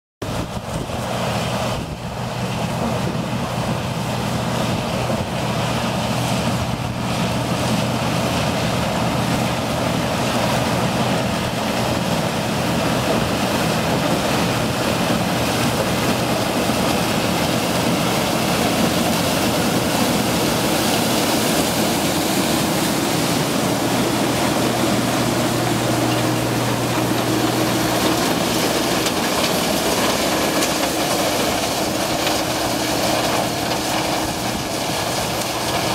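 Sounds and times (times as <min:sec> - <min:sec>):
combine harvester engine hum: 0:00.2 - 0:35.9
corn stalks drawn into header: 0:07.1 - 0:35.9.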